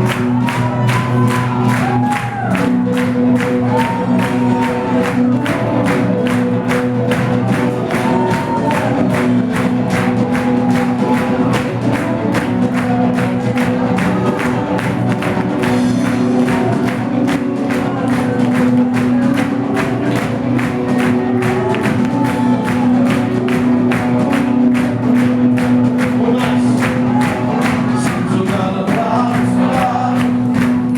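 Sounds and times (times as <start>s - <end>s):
band playing worship music: 0.0s - 30.9s
voices singing: 3.4s - 30.9s.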